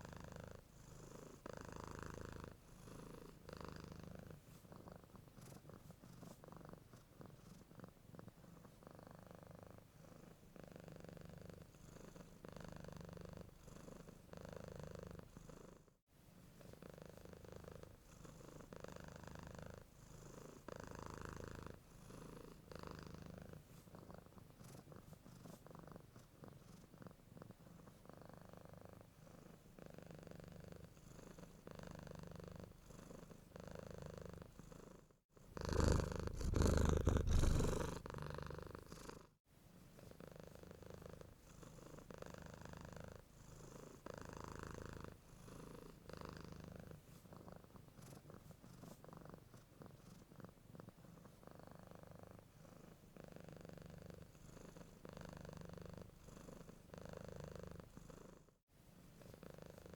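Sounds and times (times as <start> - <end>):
cat purring: 0.0 - 58.6, 59.2 - 59.9.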